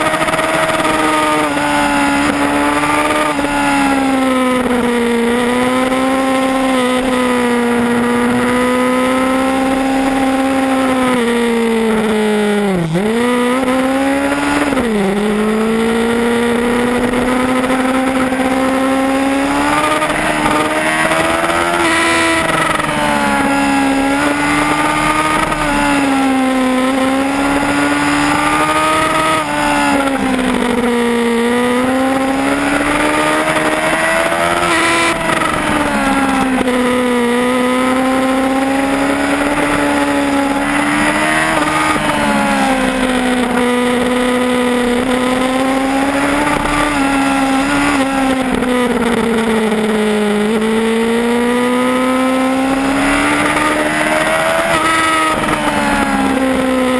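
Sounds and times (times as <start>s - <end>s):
motorcycle engine at high revs: 0.0s - 56.9s.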